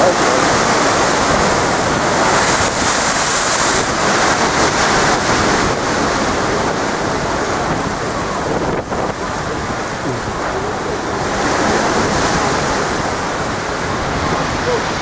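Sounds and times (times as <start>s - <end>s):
waves breaking against sea wall: 0.0s - 15.0s
wind buffeting microphone: 0.0s - 15.0s.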